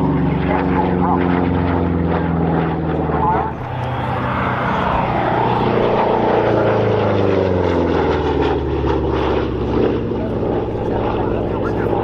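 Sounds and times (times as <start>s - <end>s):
propeller plane flyby: 0.0s - 12.0s.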